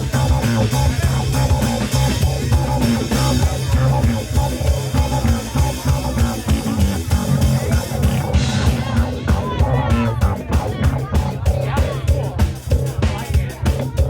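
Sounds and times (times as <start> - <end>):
bass guitar: 0.0 - 14.0
drum kit: 0.0 - 14.0.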